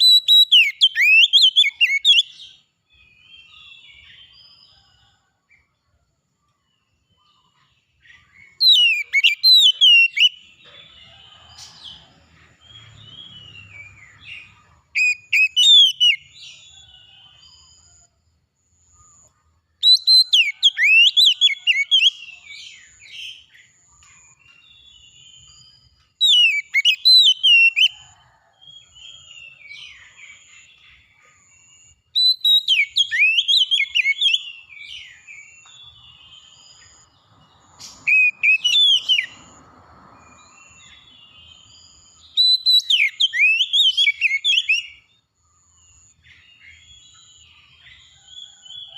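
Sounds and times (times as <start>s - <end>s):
songbird singing whistled notes: 0.0s - 5.7s, 6.5s - 18.1s, 18.7s - 39.6s, 40.2s - 48.9s.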